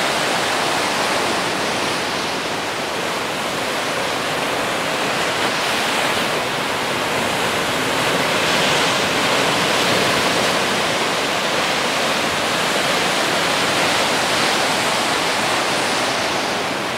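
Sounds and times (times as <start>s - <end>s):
ocean surf breaking over rocks: 0.0s - 16.9s.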